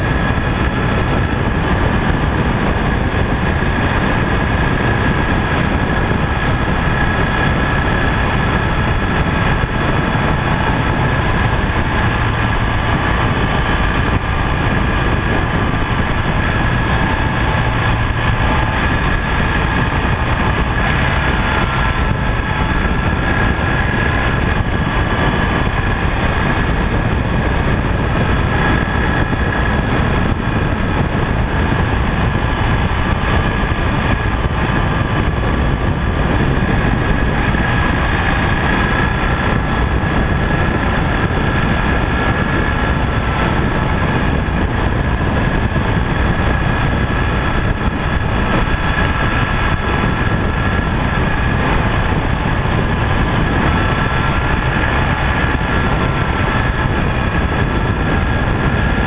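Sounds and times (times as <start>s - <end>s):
motorcycle engine drone: 0.0s - 59.0s
wind and road noise: 0.0s - 59.0s.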